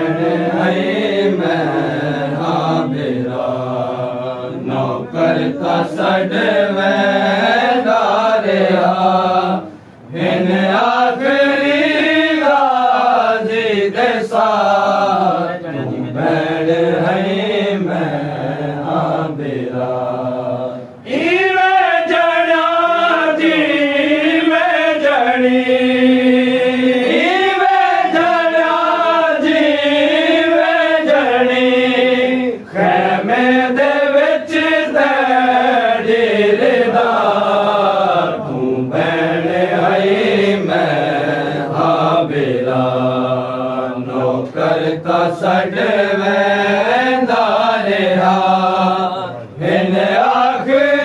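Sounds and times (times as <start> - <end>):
men chanting a lament: 0.0 - 51.0.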